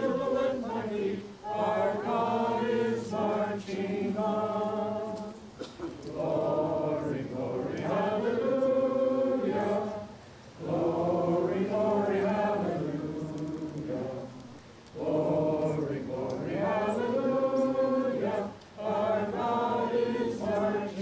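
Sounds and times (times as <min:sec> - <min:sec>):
group singing held notes: 0:00.0 - 0:21.0.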